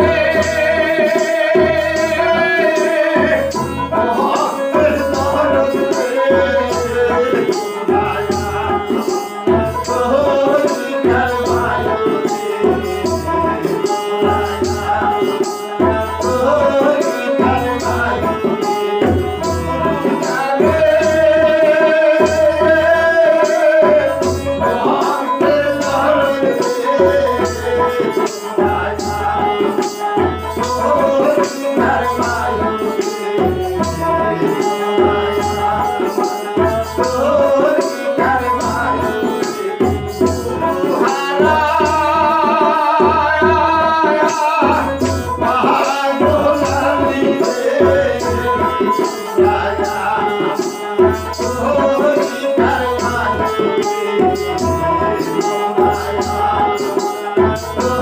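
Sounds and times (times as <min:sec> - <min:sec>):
barrel drum beats: 0:00.0 - 0:58.0
man singing: 0:00.0 - 0:58.0.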